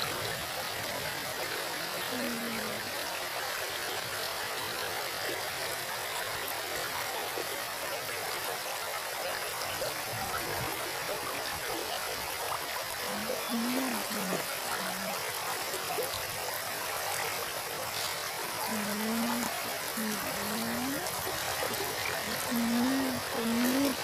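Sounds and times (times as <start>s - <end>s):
river water running over stones: 0.0s - 24.0s.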